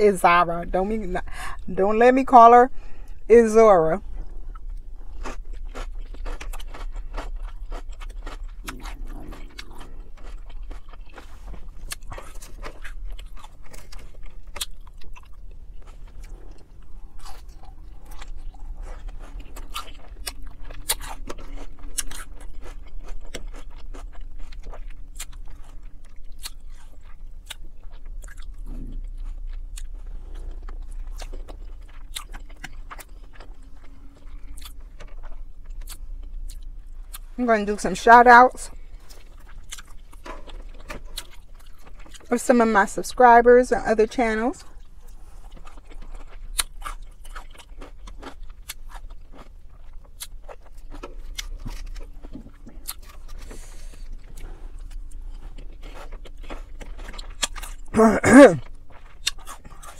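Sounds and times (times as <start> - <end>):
low steady hum: 0.0 - 59.9
person chewing food: 4.0 - 37.4, 38.7 - 42.3, 44.6 - 59.9.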